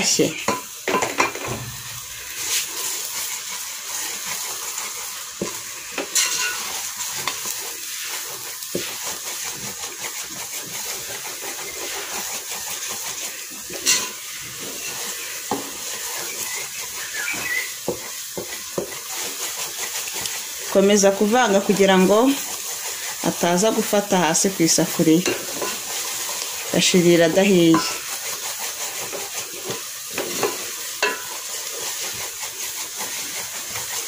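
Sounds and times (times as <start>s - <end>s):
eggs sizzling in a pot: 0.0s - 34.0s
wooden spatula scraping: 0.0s - 34.0s.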